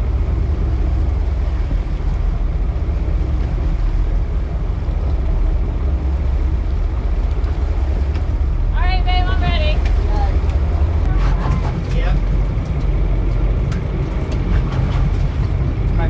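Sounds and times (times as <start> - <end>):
boat engine rumble: 0.0 - 16.0
rushing water: 0.0 - 16.0
wind: 0.0 - 16.0.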